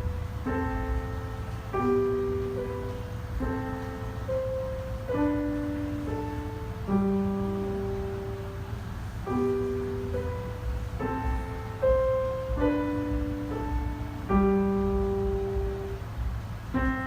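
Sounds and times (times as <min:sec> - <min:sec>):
slow piano keyboard music: 0:00.0 - 0:17.0
steady low rumble: 0:00.0 - 0:17.0.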